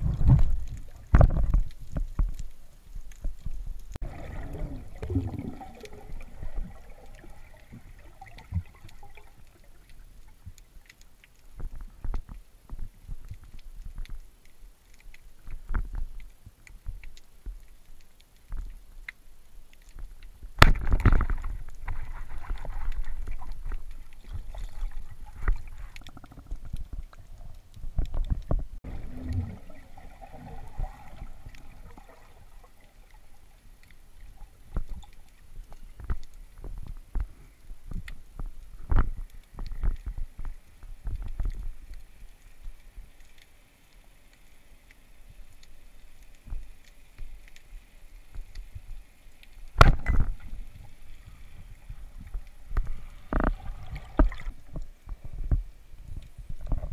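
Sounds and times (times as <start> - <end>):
rushing water: 0.0 - 12.0, 14.4 - 56.9
underwater clicks and crackles: 0.0 - 56.9
underwater water noise: 0.0 - 56.9.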